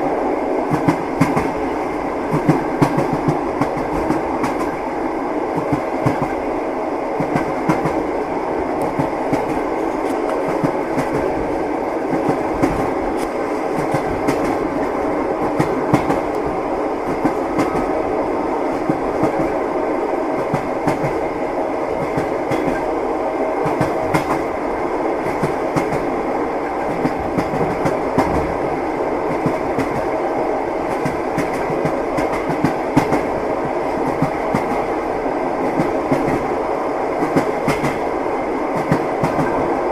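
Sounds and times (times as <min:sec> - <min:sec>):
train wheels clattering over rails: 0:00.6 - 0:04.8, 0:05.5 - 0:06.4, 0:07.2 - 0:08.1, 0:08.8 - 0:18.0, 0:18.6 - 0:19.6, 0:20.3 - 0:23.0, 0:23.6 - 0:24.6, 0:25.2 - 0:30.2, 0:30.8 - 0:35.0, 0:35.6 - 0:36.5, 0:37.2 - 0:39.9.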